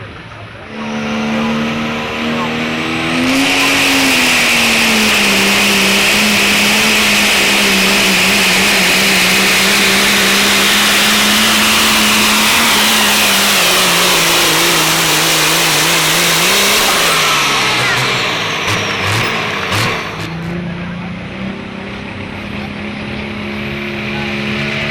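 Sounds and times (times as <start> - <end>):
diesel truck engine under load: 0.0 - 24.9.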